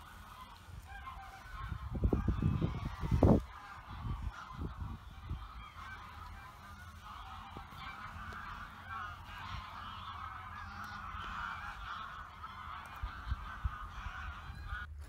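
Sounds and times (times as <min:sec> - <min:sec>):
flock of birds calling: 0:00.0 - 0:15.0.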